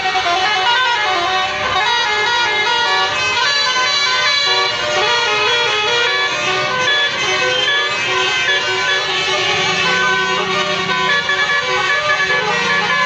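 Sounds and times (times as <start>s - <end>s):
bus horn playing a melody: 0.0s - 13.0s.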